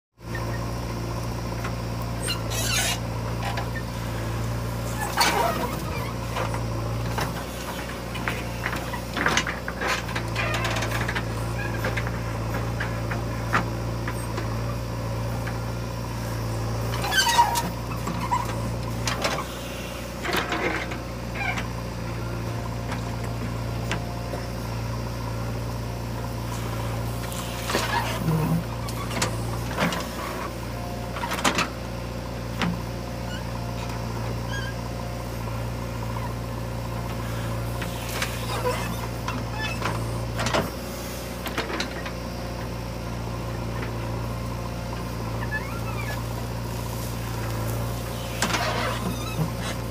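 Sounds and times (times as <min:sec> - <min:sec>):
diesel engine running: 0:00.2 - 0:49.9.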